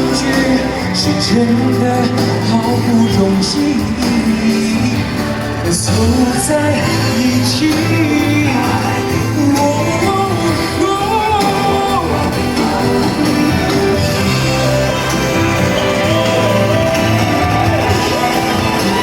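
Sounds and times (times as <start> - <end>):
instrumental accompaniment: 0.0 - 19.0
person singing pop ballad: 0.0 - 19.0.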